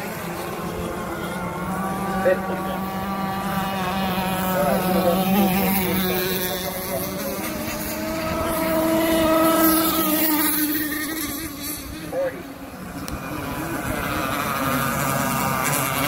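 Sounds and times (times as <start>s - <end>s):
model boat engines racing: 0.0s - 16.0s.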